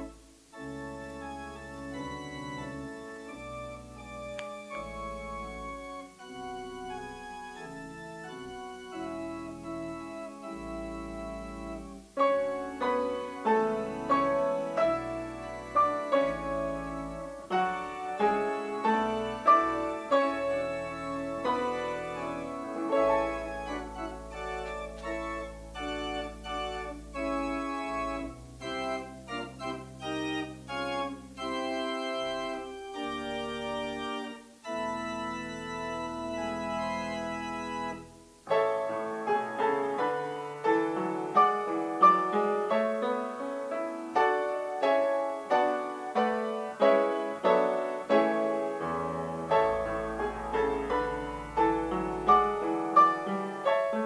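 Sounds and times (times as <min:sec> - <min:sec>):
piano notes: 0:00.0 - 0:54.0
pipe organ chords: 0:00.0 - 0:54.0.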